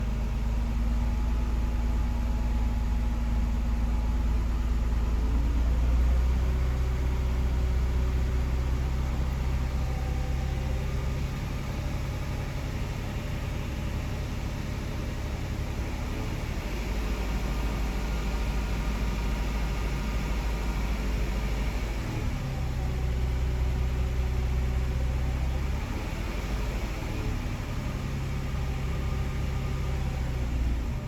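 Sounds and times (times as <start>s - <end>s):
engine running with whine: 0.0s - 31.0s.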